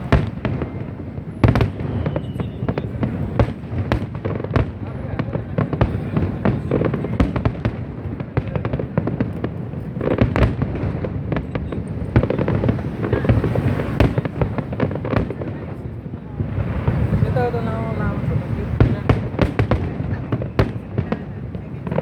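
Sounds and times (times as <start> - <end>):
fireworks bangs and crackling: 0.0 - 22.0
fireworks booms: 0.0 - 22.0.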